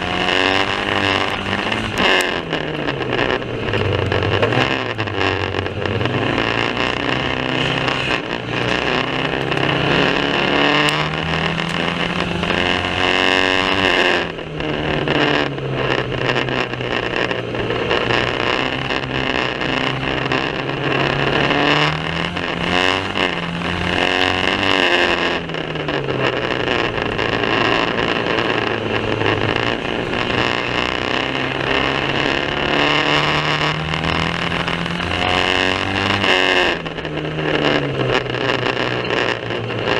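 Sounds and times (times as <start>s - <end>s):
heavy rumbling noise: 0.0s - 39.9s
racing car engine revving: 0.0s - 39.9s.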